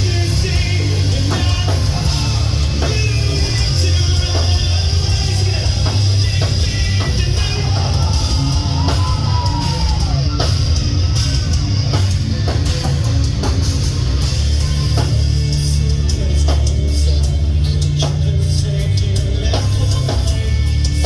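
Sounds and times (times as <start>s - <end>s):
hard rock band playing: 0.0s - 21.0s.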